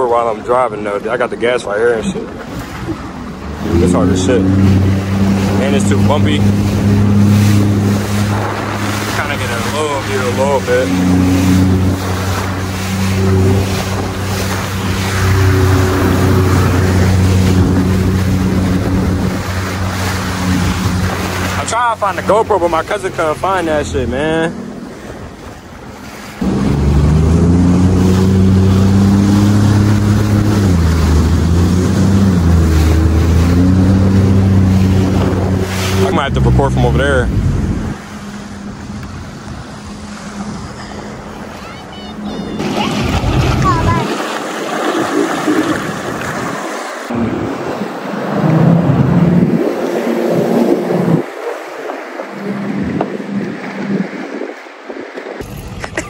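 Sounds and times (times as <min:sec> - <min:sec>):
watercraft engine droning: 0:00.0 - 0:56.0
wind buffeting microphone: 0:02.0 - 0:56.0.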